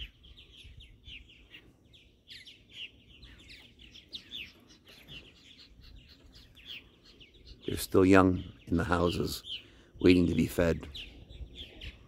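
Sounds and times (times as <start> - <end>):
birds chirping in flight: 0.0 - 12.0.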